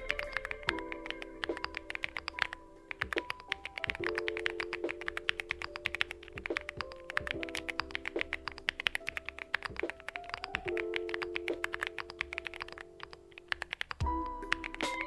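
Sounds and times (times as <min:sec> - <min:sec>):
background music with sustained notes: 0:00.0 - 0:15.0
mechanical keyboard typing: 0:00.0 - 0:15.0.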